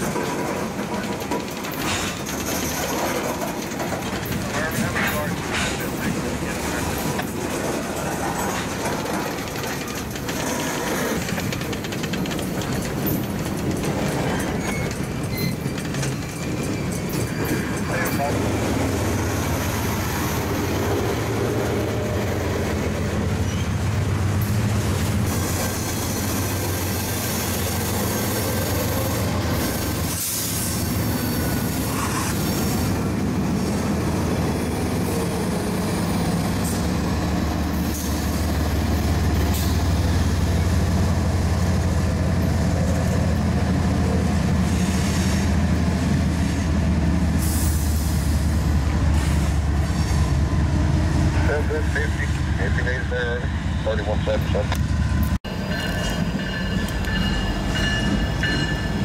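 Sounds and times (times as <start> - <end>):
freight cars rumbling and rattling: 0.0 - 59.0
locomotive engine drone: 0.0 - 59.0.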